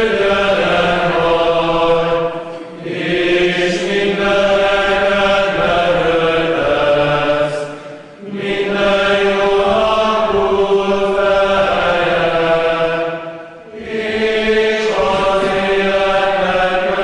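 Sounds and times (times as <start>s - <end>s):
congregation singing a chant: 0.0s - 17.0s.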